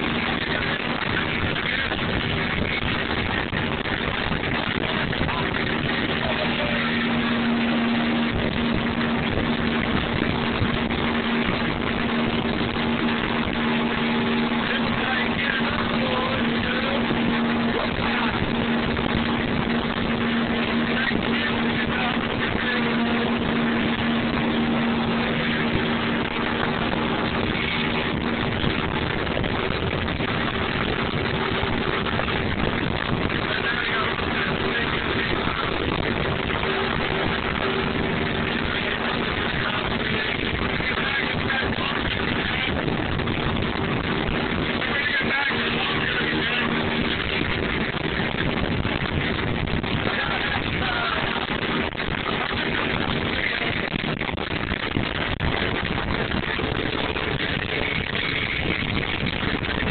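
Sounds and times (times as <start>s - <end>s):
motorboat engine humming: 0.0s - 59.9s
water rushing: 0.0s - 59.9s
wind: 0.0s - 59.9s.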